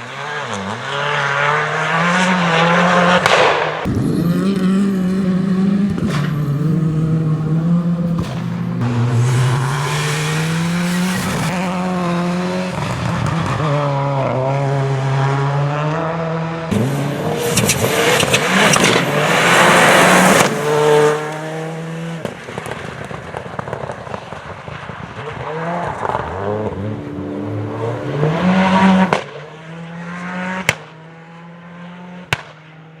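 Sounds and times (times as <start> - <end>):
rally car engine revving: 0.0 - 33.0
loud rushing of passing car: 0.3 - 32.8.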